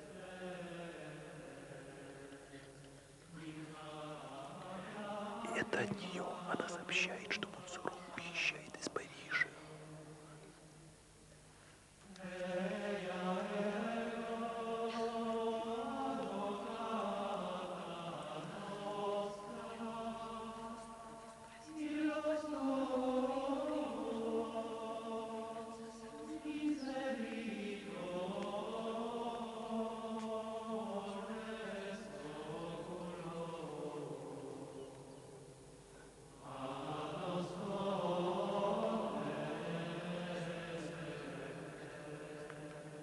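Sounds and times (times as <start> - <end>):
choir singing slow chant: 0.0 - 10.4, 12.0 - 43.0.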